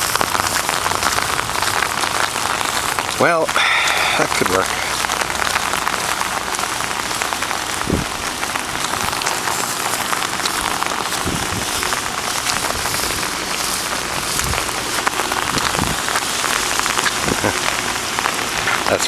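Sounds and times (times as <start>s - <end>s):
heavy rain falling: 0.0s - 19.0s
raindrops spattering: 0.0s - 19.0s.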